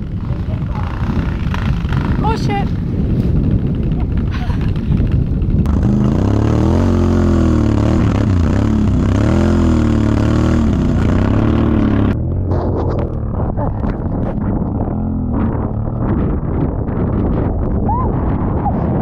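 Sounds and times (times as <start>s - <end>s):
atv engine revving: 0.0s - 2.8s, 3.4s - 17.6s.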